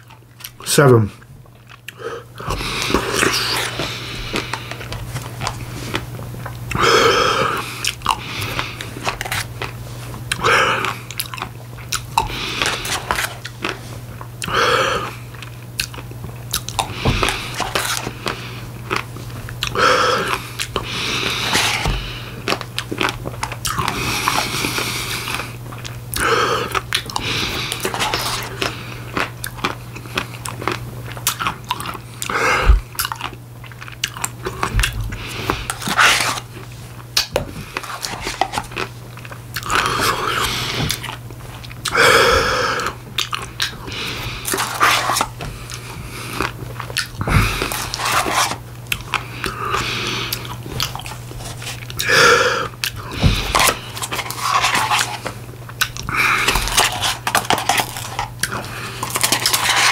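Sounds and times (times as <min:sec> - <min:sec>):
candy crunching: 0:00.0 - 0:59.9
wet chewing and smacking: 0:00.0 - 0:59.9.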